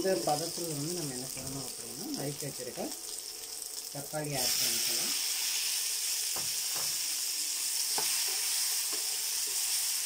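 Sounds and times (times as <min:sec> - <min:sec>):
tomatoes sizzling in hot oil: 0:00.0 - 0:10.0.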